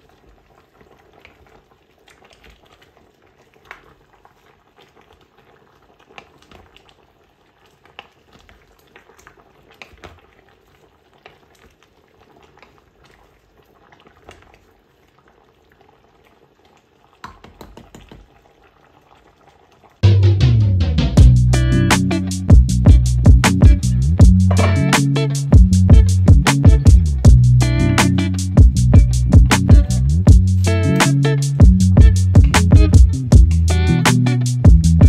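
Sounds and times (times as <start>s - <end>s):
stew simmering: 0.0s - 35.0s.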